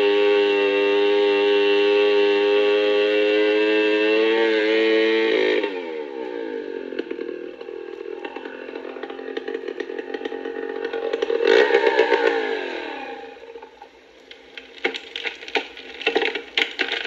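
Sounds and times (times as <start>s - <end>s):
chainsaw engine revving and idling: 0.0s - 17.0s.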